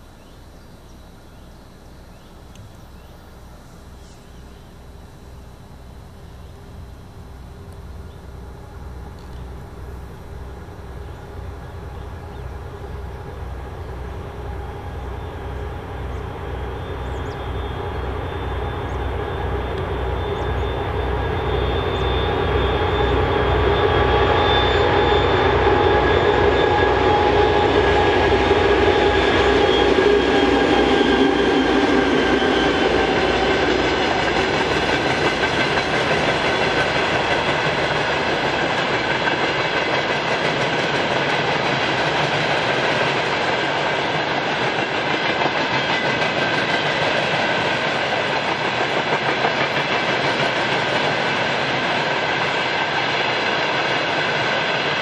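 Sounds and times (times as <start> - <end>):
diesel locomotive engine throbbing: 0.0 - 55.0.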